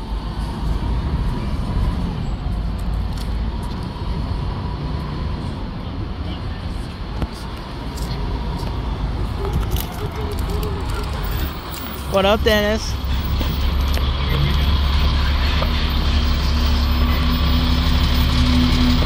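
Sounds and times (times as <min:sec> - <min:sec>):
bus engines rumbling past: 0:00.0 - 0:19.0.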